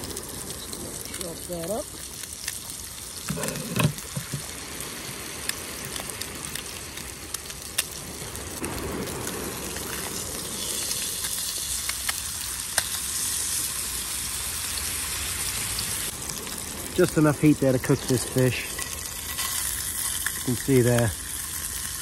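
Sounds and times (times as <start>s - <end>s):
spitting fat crackles: 0.0s - 14.1s, 15.1s - 22.0s
fish frying in oil: 0.0s - 22.0s.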